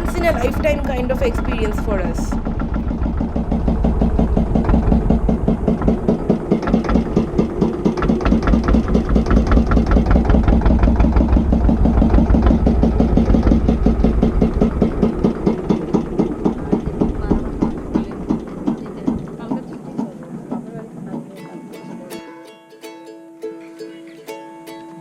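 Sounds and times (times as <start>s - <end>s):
motorboat engine chugging: 0.0s - 22.4s.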